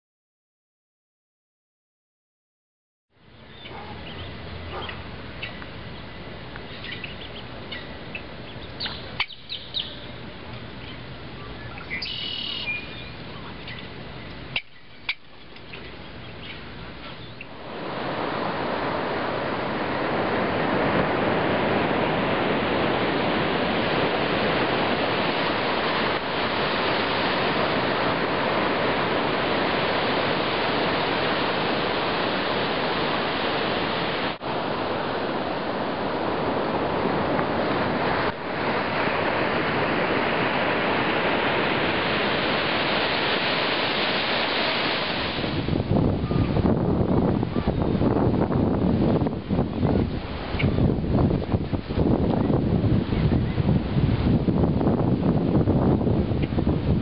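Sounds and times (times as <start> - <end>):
surf washing up beach: 4.4 - 57.0.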